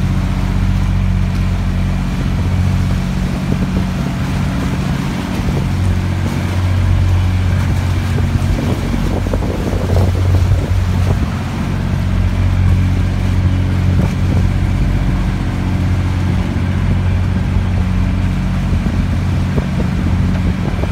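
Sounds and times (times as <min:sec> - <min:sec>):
boat engine running: 0:00.0 - 0:20.9.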